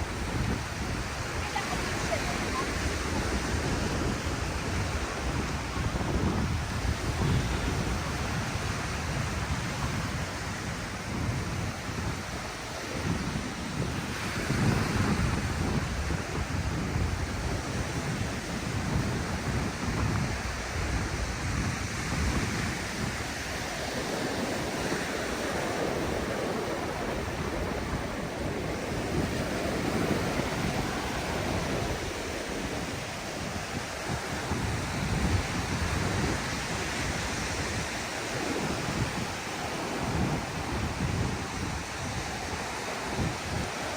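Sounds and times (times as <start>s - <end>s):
ocean surf breaking on beach: 0.0s - 43.9s
wind gusting against microphone: 0.0s - 43.9s.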